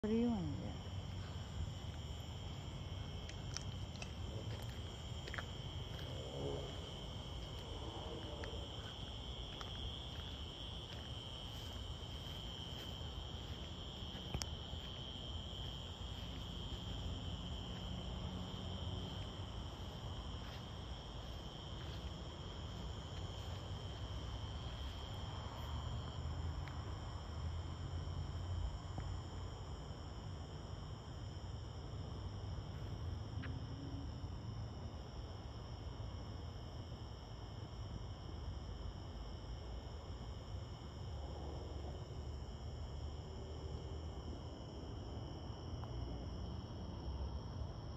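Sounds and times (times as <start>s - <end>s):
night insects trilling: 0.0s - 47.9s.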